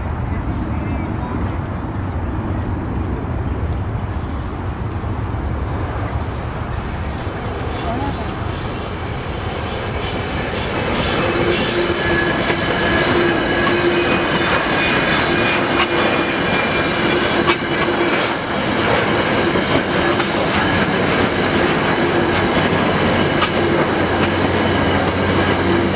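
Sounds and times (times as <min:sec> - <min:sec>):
train rolling rumble: 0:00.0 - 0:25.9.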